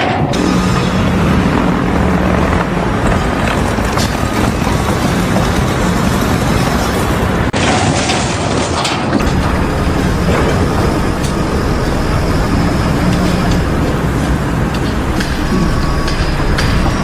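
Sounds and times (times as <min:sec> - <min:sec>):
machinery rumble: 0:00.0 - 0:17.0.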